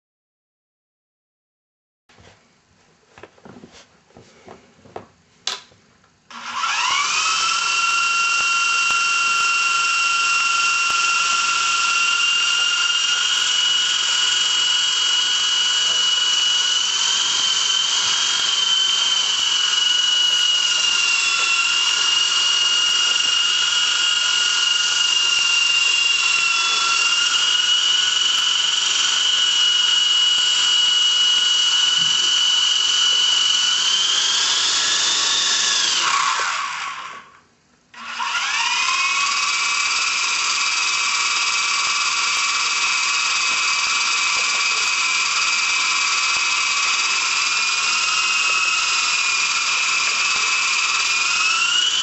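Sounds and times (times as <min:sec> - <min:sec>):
rc helicopter motor whine: 0:06.3 - 0:37.4, 0:38.0 - 0:52.0.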